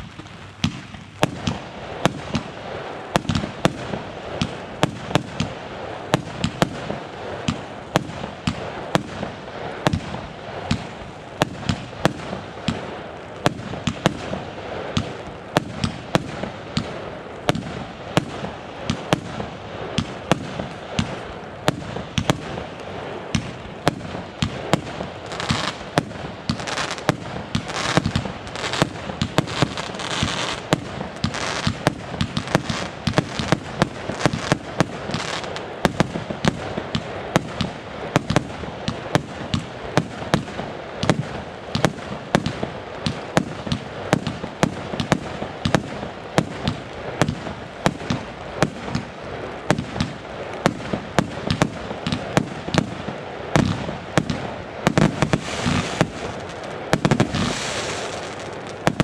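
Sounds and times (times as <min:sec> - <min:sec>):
fireworks bangs: 0:00.0 - 0:59.0
fireworks hissing crackle: 0:00.0 - 0:59.0.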